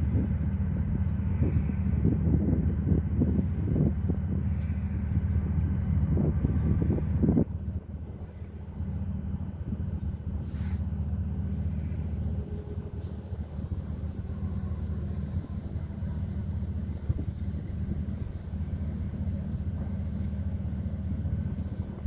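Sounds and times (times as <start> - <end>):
ship engines droning: 0.0 - 22.0.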